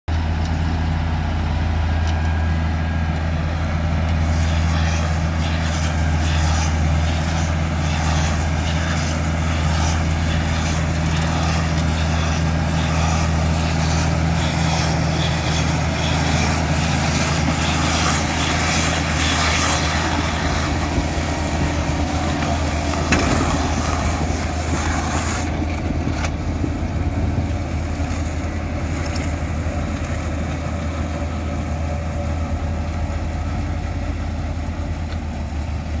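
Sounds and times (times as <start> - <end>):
baler working: 0.1 - 36.0
tractor diesel engine running: 0.1 - 36.0.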